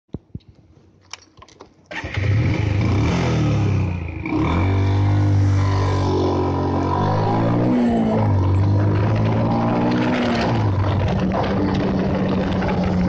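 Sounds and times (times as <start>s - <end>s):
motorcycle engine revving: 1.9s - 13.0s.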